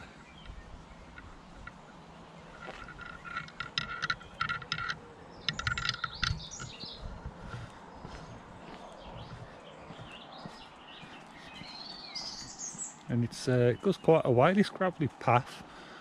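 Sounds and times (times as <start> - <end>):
songbird singing rapid notes: 0.0 - 15.7.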